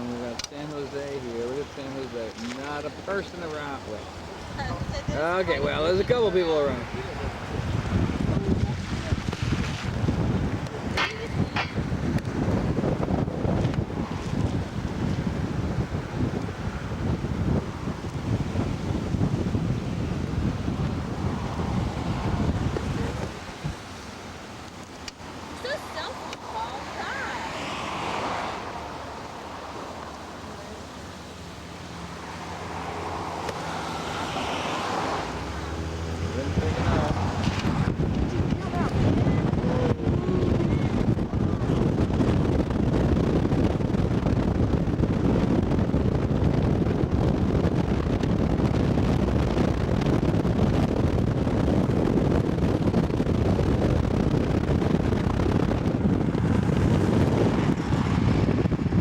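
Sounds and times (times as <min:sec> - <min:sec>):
car engine hum: 0:00.0 - 0:59.0
wind buffeting microphone: 0:00.0 - 0:59.0
road noise inside moving car: 0:02.9 - 0:59.0.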